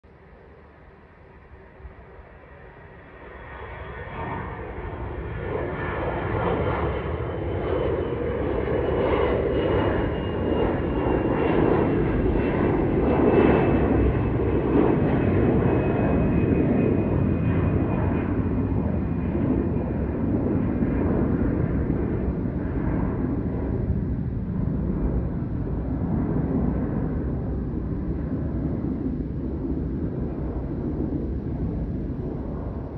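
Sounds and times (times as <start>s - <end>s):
jet engine roar: 0.1s - 32.9s.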